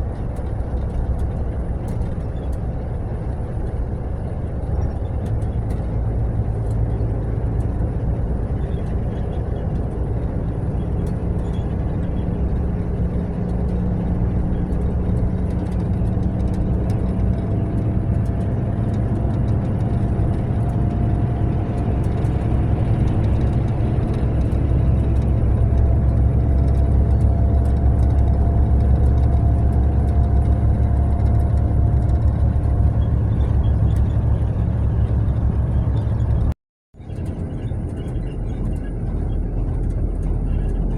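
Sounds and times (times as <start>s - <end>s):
coach engine and tyres drone: 0.0s - 40.9s.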